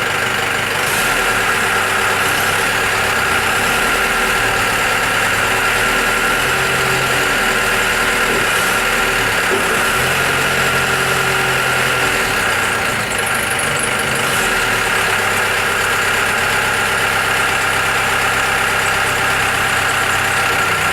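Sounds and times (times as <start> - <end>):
diesel forklift engine idling: 0.0 - 20.9.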